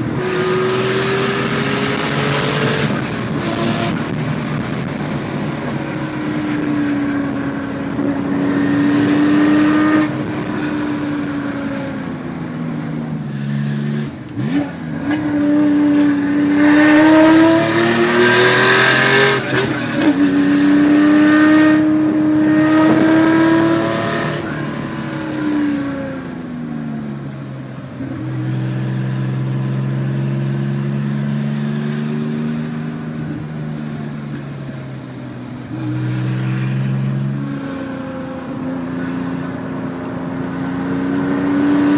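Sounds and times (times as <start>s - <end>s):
sports car engine accelerating: 0.0s - 41.9s.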